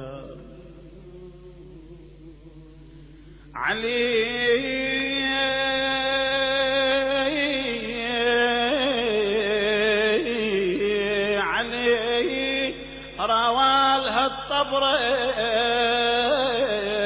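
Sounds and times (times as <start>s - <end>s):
person singing wordless elegy: 0.0s - 17.0s.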